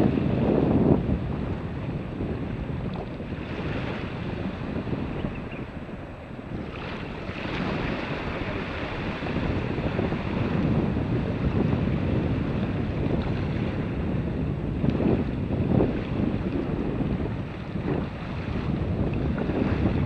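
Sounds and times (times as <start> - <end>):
small waves washing on sand: 0.0 - 20.0
wind buffeting microphone: 0.0 - 20.0.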